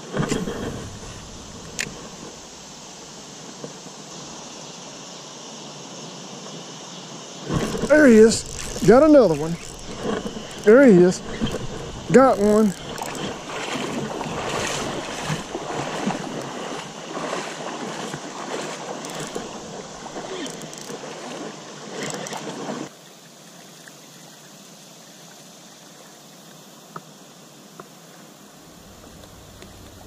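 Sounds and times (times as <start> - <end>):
river water sloshing and splashing: 0.0 - 5.9, 7.3 - 26.2, 28.6 - 30.0
flowing river water rushing: 0.0 - 6.4, 7.4 - 26.0, 28.4 - 30.0.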